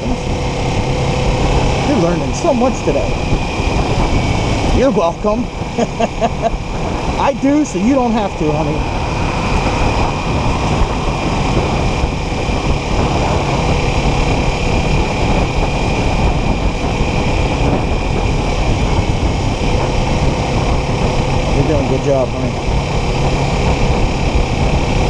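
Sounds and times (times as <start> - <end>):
motorcycle engine cruising: 0.0 - 25.0
wind noise on microphone: 0.0 - 25.0.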